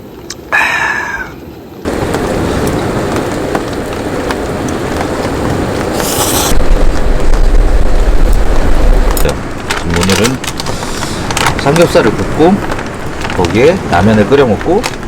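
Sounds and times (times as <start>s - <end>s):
low wind rumble: 0.0s - 15.0s
steady rain: 0.0s - 15.0s.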